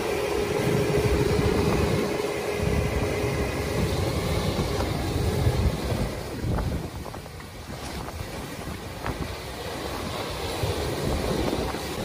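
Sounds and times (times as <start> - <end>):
steady tone: 0.0 - 12.0
tyres churning through water and ice: 0.0 - 12.0
vehicle engine droning: 0.0 - 12.0.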